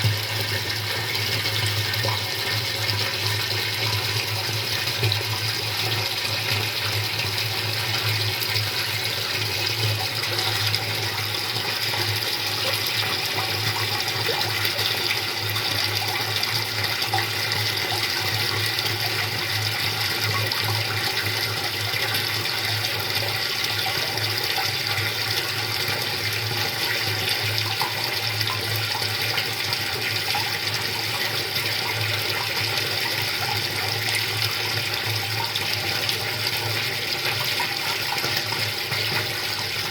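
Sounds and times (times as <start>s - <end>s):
rainwater pouring into a cistern: 0.0s - 39.9s.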